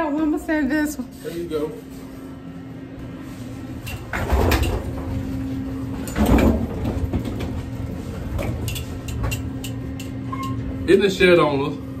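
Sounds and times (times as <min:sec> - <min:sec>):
elevator humming and rumbling: 0:01.8 - 0:12.0.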